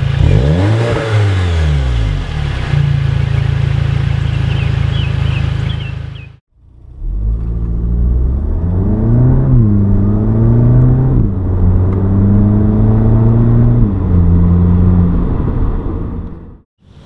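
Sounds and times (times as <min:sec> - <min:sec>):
car engine accelerating through gears: 0:00.0 - 0:03.4, 0:04.2 - 0:16.4.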